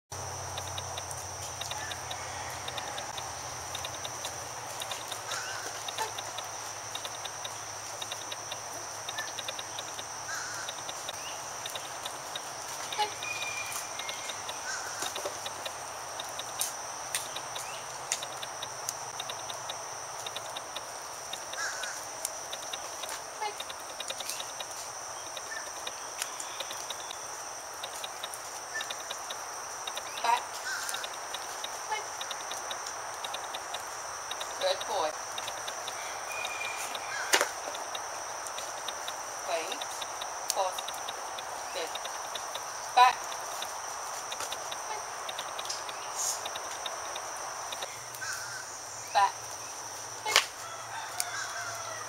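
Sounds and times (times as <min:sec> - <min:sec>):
sharp clicks: 0:00.2 - 0:48.3, 0:50.3 - 0:50.6
high-pitched insect drone: 0:00.2 - 0:52.0.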